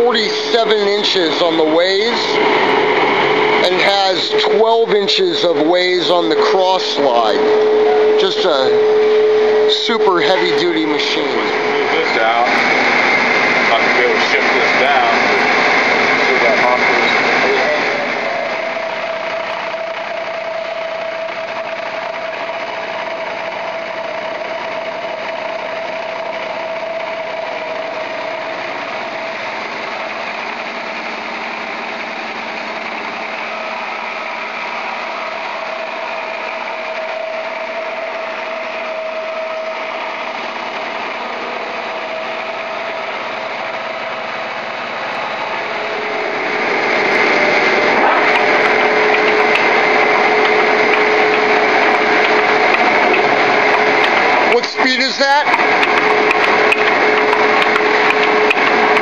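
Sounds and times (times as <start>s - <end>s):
lathe gearing whine: 0.0s - 59.0s
lathe mechanical hum: 0.0s - 59.0s.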